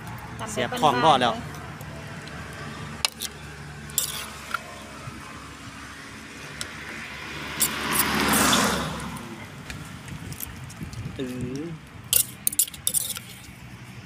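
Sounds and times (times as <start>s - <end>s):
passing traffic rush: 0.0s - 14.0s.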